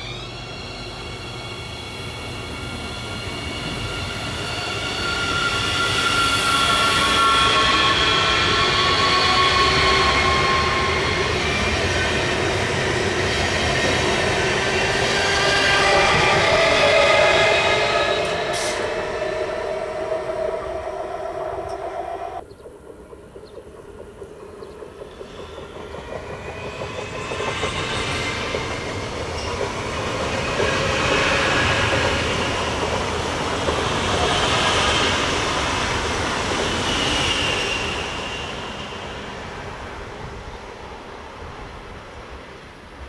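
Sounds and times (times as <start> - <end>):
high whining train tones: 0.0 - 43.0
train wheels rolling on rails: 0.0 - 43.0.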